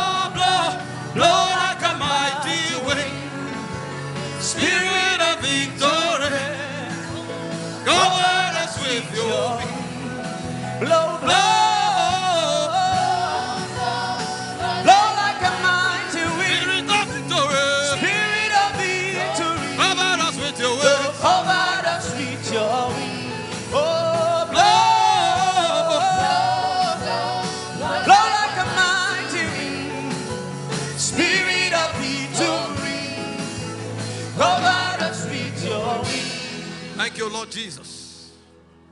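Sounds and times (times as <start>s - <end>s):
gospel worship music: 0.0s - 38.9s.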